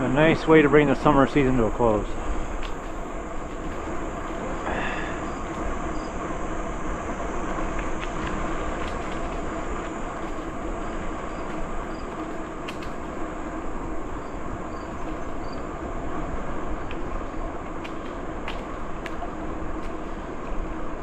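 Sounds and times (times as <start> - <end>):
bicycle tyres rolling on a trail: 0.0 - 21.0.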